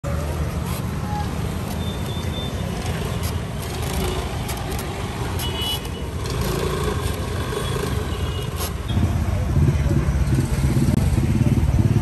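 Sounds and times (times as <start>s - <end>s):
motor scooters running: 0.2s - 12.0s.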